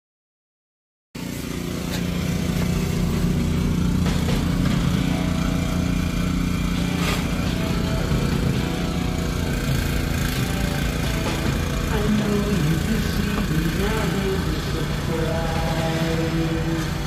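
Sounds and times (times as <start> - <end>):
snowblower engine running: 1.2 - 17.0.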